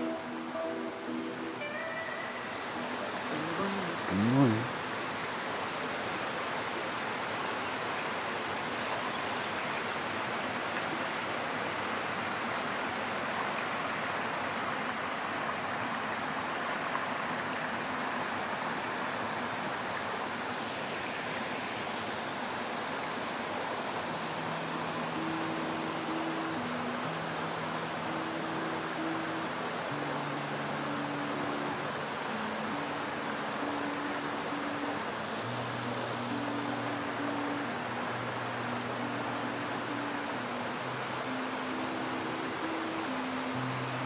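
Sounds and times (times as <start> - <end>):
high-pitched insect trill: 0.0 - 44.0
low sustained music notes: 0.0 - 44.0
stream water rushing: 0.0 - 44.0.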